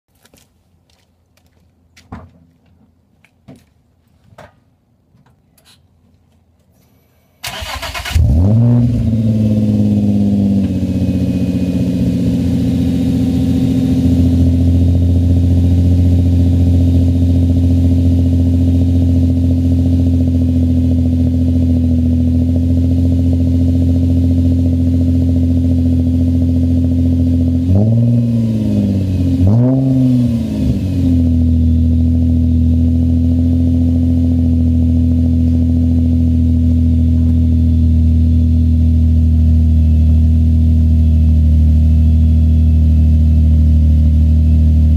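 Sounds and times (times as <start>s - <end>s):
car engine starting and idling: 6.7s - 44.9s
engine revving: 7.4s - 44.9s.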